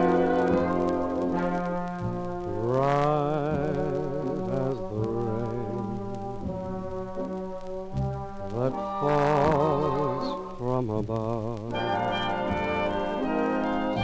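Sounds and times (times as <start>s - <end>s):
horns playing slow melody: 0.0s - 10.7s, 11.6s - 14.0s
held low notes: 0.0s - 14.0s.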